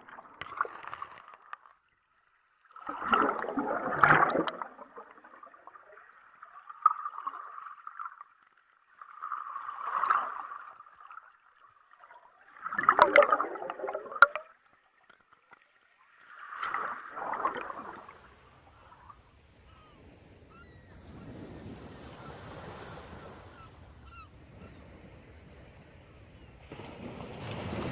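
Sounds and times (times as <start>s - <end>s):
water gurgling and sloshing: 0.0s - 27.9s.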